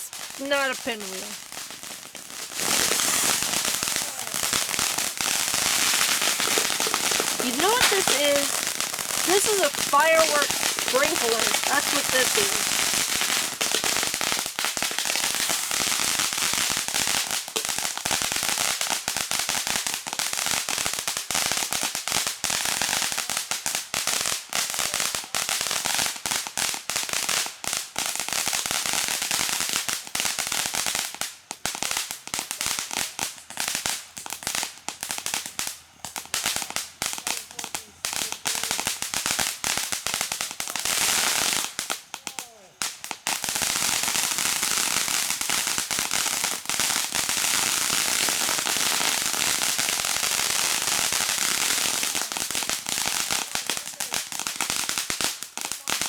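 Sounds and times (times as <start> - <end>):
firework fountains hissing and crackling: 0.0 - 56.0.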